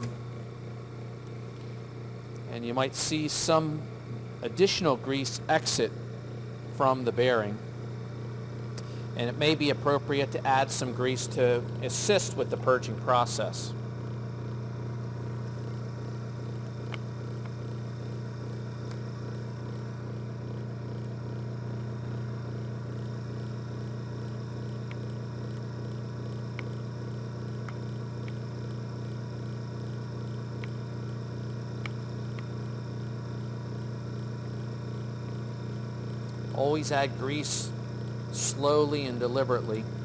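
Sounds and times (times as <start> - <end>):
electric motor humming: 0.0 - 40.0.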